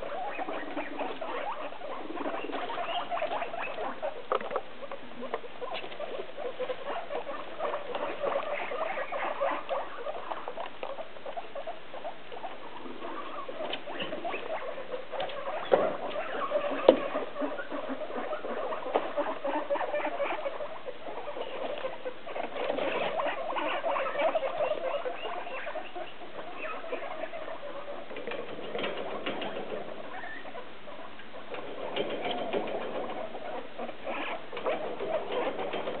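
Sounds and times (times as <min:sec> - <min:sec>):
guinea pigs squeaking: 0:00.0 - 0:36.0
rustling: 0:00.0 - 0:36.0.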